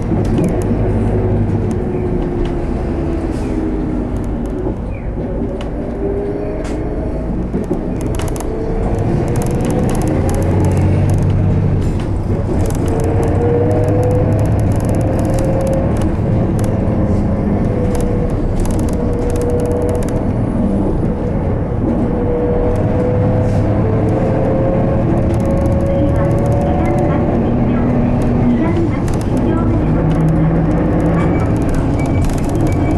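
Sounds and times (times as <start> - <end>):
bus engine low rumble: 0.0 - 32.9
rising whine of bus motor: 0.1 - 32.9.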